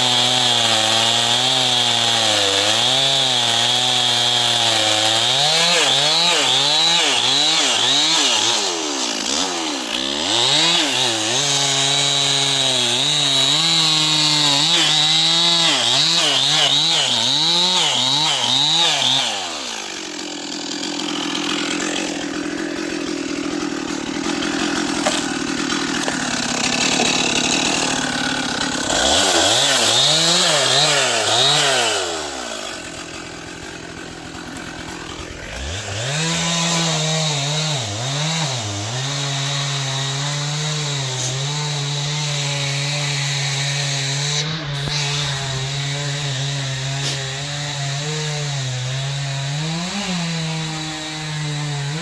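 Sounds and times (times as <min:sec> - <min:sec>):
chainsaw engine revving: 0:00.0 - 0:52.0.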